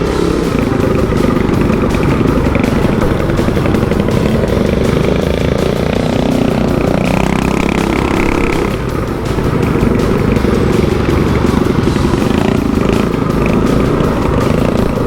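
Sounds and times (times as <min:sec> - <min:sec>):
mini bike engines racing: 0:00.0 - 0:15.0.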